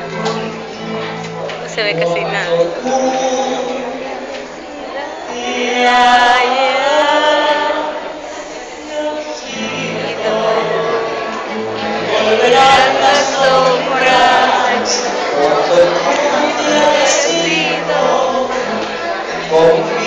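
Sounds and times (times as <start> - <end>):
person singing slow melody: 0.0 - 20.0.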